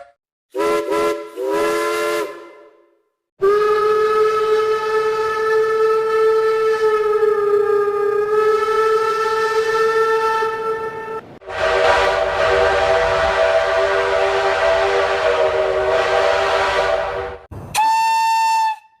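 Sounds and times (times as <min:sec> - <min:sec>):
steam train whistle: 0:00.0 - 0:19.0.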